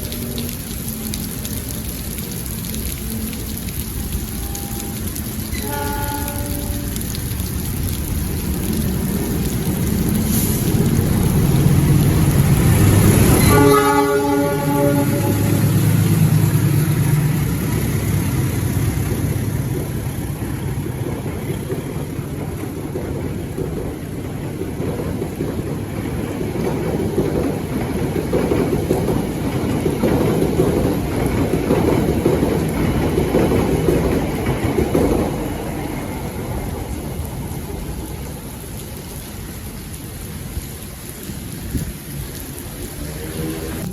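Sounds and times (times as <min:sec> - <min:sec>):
diesel locomotive engine drone: 0:00.0 - 0:43.9
rain hiss: 0:00.0 - 0:43.9
train cars rumbling past: 0:00.0 - 0:43.9.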